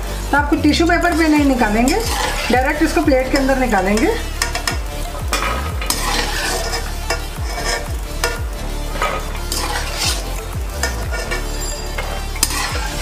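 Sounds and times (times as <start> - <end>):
nuts sizzling in hot fat: 0.0 - 13.0
metal spoon scraping a pot: 1.0 - 13.0.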